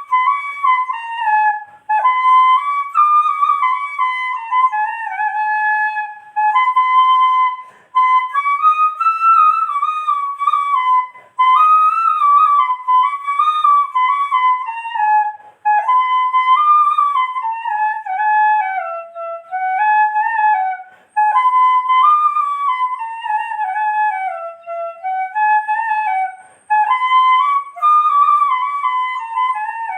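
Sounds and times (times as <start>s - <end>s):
solo flute melody: 0.0s - 29.9s.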